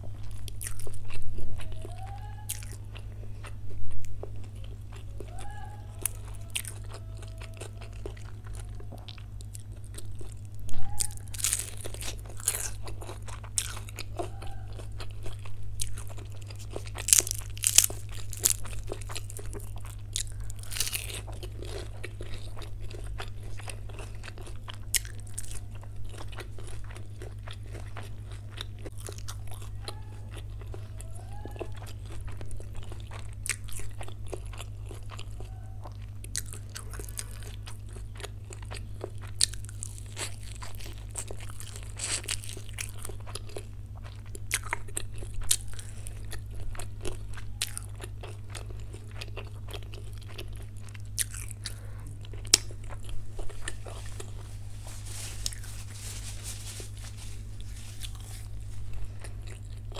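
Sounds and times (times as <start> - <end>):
chewing with wet mouth clicks: 0.0 - 54.4
crunchy bites of food: 0.0 - 59.9
steady low hum: 0.0 - 59.9.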